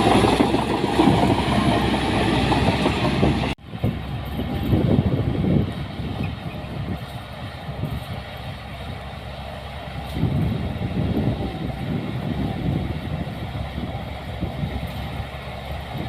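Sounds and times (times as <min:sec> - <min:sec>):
heavy machinery diesel engine running: 0:00.0 - 0:16.0.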